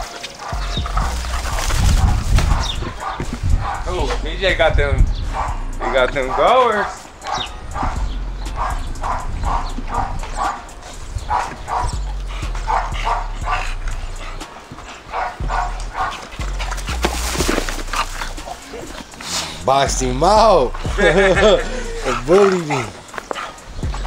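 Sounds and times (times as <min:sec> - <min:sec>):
dog barking: 0:00.4 - 0:04.2, 0:05.2 - 0:19.1, 0:21.2 - 0:24.0.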